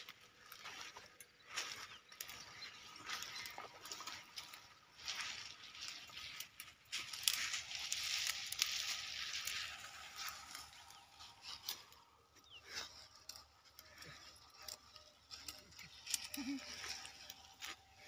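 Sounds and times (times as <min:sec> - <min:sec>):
dry plants rustling and crackling: 0:00.0 - 0:18.0.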